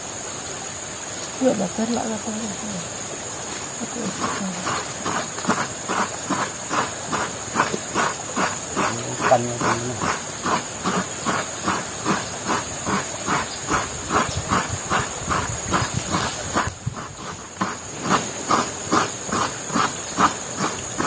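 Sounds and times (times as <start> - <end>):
coconut being grated: 3.8 - 21.0.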